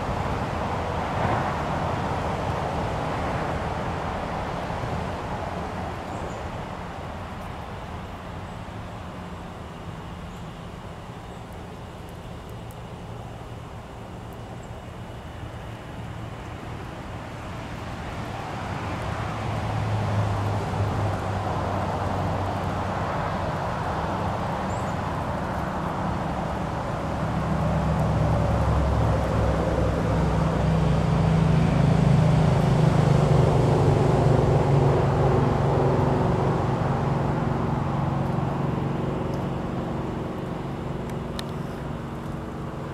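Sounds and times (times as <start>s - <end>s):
vehicle engine humming: 0.0s - 42.9s.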